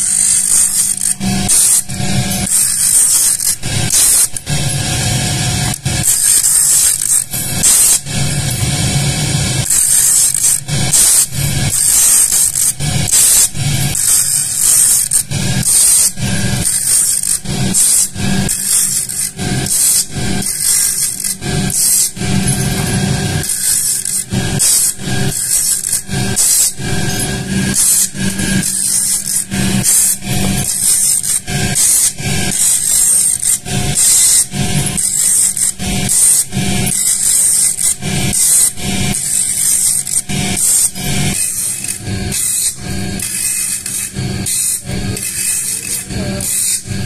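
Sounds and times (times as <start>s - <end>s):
grinder motor hum: 0.0s - 47.0s
hissing grinding scrapes: 0.0s - 47.0s.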